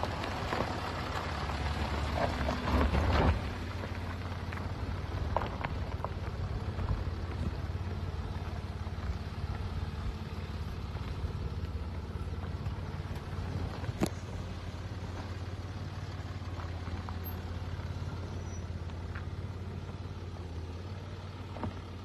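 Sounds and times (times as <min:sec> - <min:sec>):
car engine running low: 0:00.0 - 0:22.0
tyres crunching on gravel: 0:00.0 - 0:22.0.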